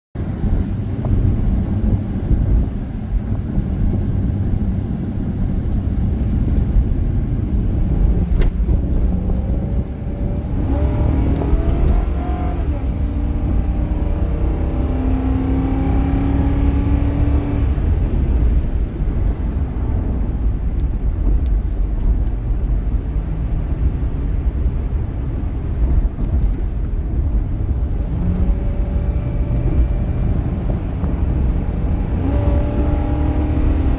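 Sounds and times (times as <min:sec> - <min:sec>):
car engine accelerating: 0:00.2 - 0:33.9
road rumble: 0:00.2 - 0:33.9.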